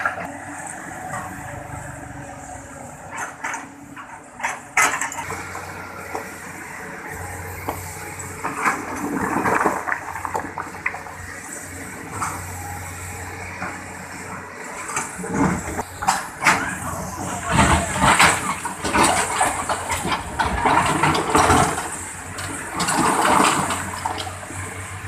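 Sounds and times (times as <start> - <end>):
excavator engine humming: 0.0 - 25.0
water and mud washing: 4.3 - 25.0.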